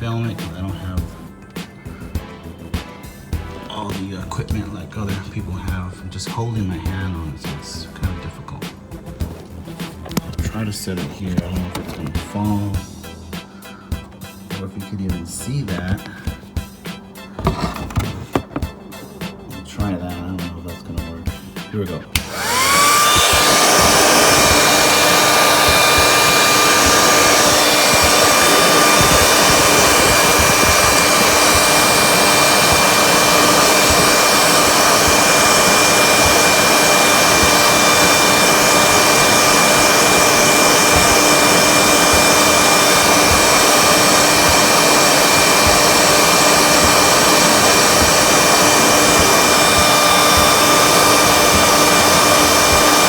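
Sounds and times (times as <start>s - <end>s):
heat gun fan blowing: 0.0s - 53.0s.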